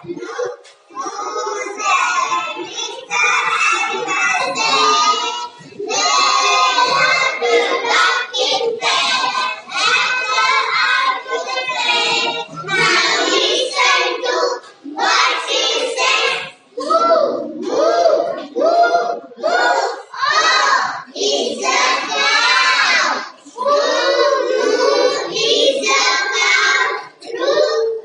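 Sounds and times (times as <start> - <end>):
young child singing: 0.0 - 28.0.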